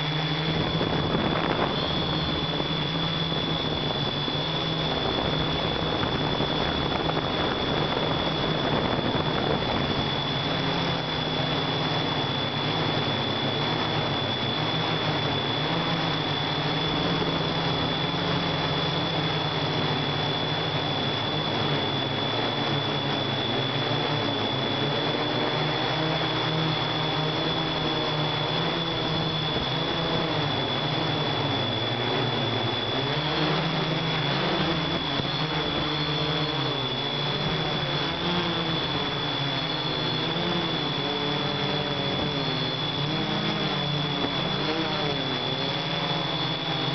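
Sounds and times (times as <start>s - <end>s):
drone propellers buzzing: 0.0s - 46.9s
thin high whine: 0.0s - 46.9s.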